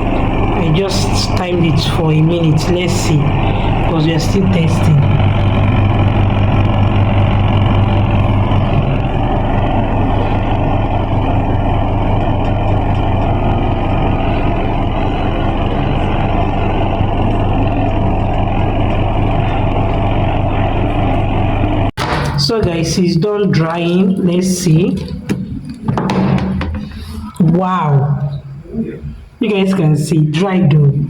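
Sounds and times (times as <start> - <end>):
washing machine humming: 0.0 - 29.8.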